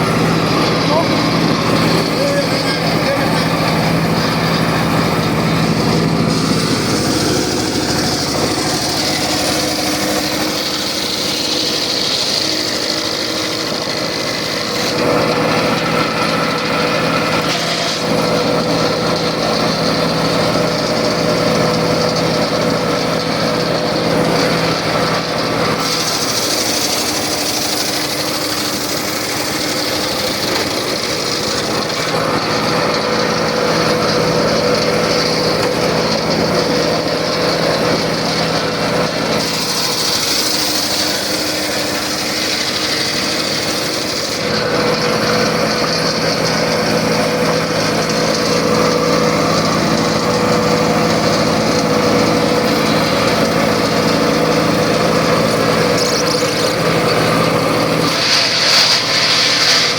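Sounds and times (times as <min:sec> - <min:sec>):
circular saw running: 0:00.0 - 0:59.9.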